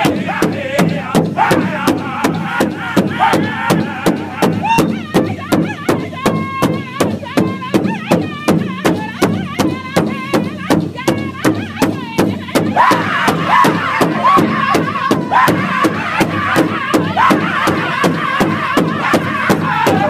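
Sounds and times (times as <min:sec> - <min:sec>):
large drum steady beat: 0:00.0 - 0:20.0
men singing: 0:00.0 - 0:20.0.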